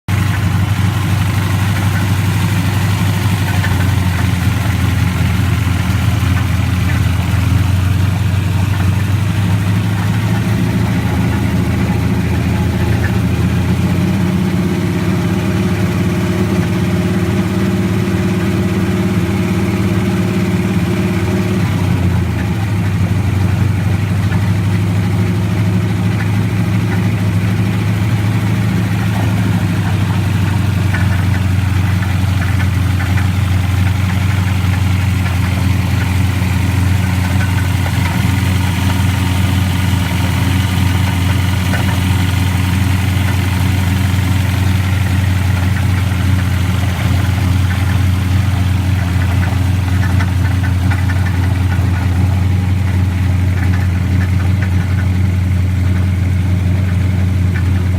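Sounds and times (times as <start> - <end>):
car engine idling with knocking: 0.0 - 57.9.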